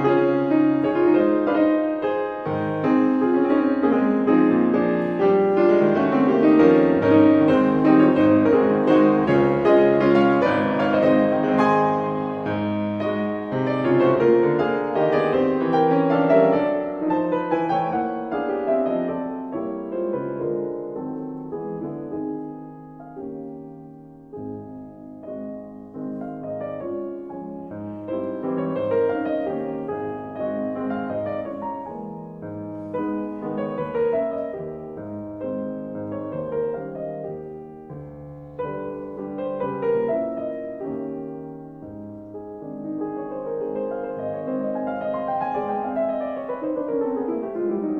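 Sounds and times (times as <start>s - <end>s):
slow piano melody: 0.0s - 47.9s.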